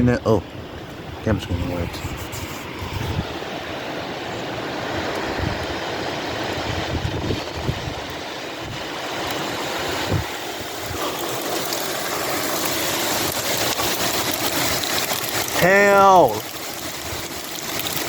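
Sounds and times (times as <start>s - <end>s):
heavy rain and wind: 0.0s - 18.0s.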